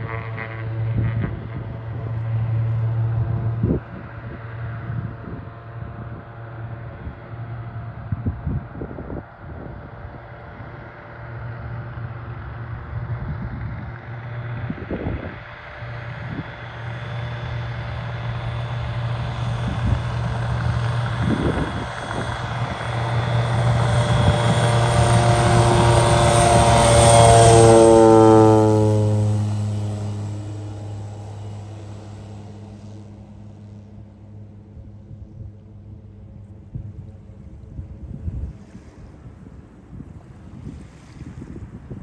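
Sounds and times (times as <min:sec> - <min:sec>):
floatplane engine and propeller drone: 0:00.0 - 0:42.0.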